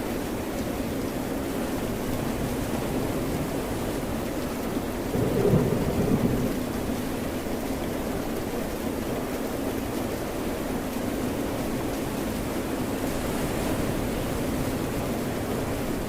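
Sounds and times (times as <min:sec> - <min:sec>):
steady rain: 0:00.0 - 0:16.0
ocean surf: 0:00.1 - 0:08.8, 0:09.8 - 0:16.0.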